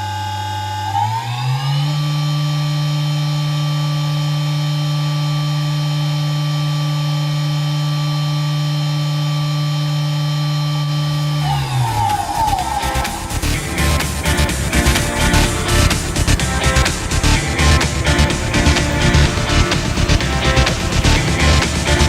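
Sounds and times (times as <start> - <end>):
machine spindle whining: 0.0 - 22.0.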